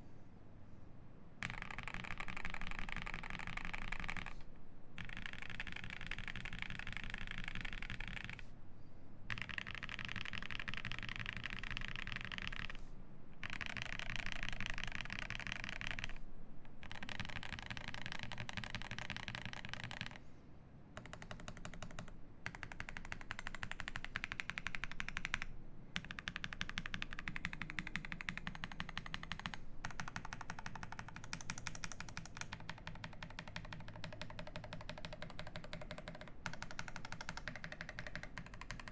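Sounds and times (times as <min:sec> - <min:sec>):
mechanical keyboard typing clacks: 0:01.4 - 0:04.3, 0:05.0 - 0:08.4, 0:09.3 - 0:12.8, 0:13.4 - 0:16.2, 0:16.8 - 0:20.2, 0:21.0 - 0:38.9.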